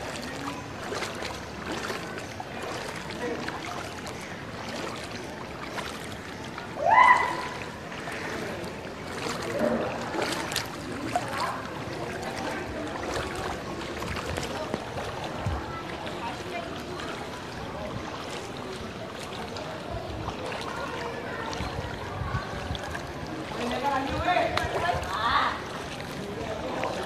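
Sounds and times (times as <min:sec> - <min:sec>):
water sloshing from wading: 0:00.0 - 0:27.0.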